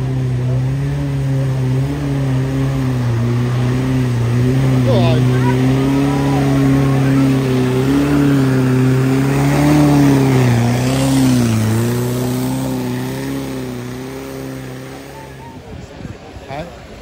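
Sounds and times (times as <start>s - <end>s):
car engine pulling under load: 0.0s - 16.9s.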